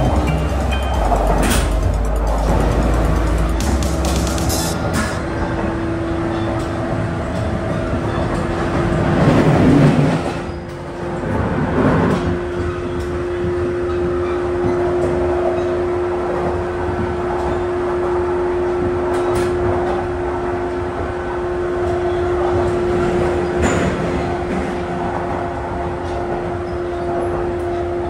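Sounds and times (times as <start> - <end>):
electric train humming: 0.0 - 28.0
rumbling rail noise: 0.0 - 28.0.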